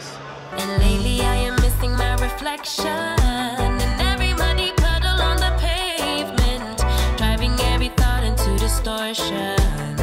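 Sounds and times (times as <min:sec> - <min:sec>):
person singing with vibrato: 0:00.0 - 0:10.0
bass line and drum beat: 0:00.6 - 0:10.0.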